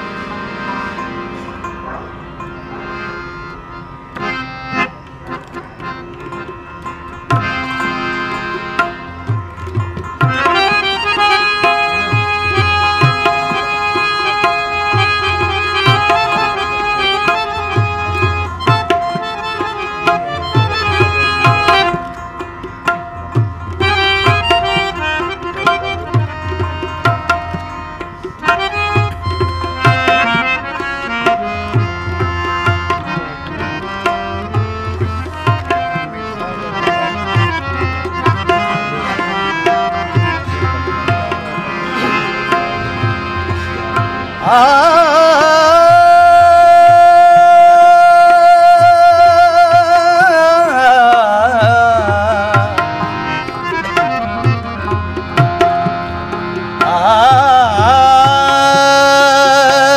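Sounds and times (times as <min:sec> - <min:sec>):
harmonium sustained notes: 0:00.0 - 0:59.9
rabab: 0:00.0 - 0:59.9
tabla rhythm with bass strokes: 0:00.0 - 0:59.9.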